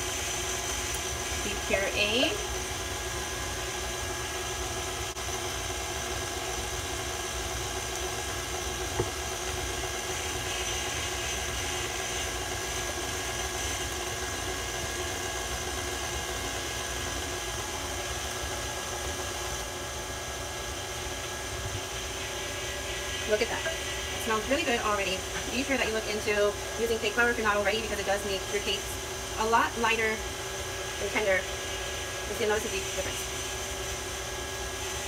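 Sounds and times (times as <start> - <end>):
stand mixer motor humming: 0.0 - 28.1.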